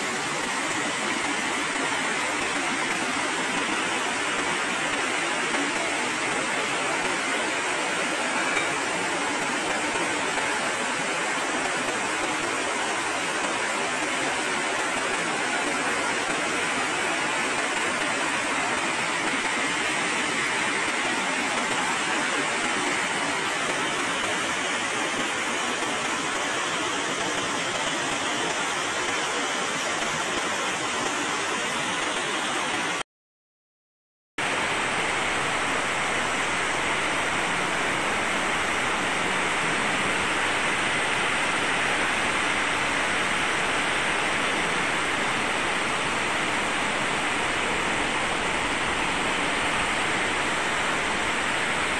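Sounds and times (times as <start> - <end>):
heavy rain on metal roofs: 0.0 - 33.0, 34.4 - 51.9.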